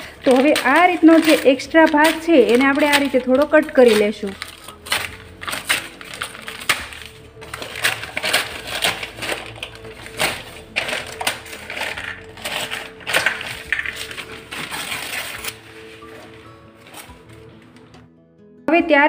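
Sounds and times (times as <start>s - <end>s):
newspaper crinkling and rustling: 0.0s - 17.9s.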